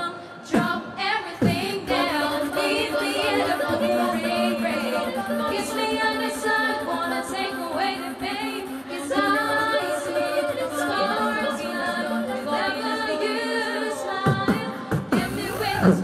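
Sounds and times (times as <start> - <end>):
girls' choir singing a cappella: 0.0 - 16.0.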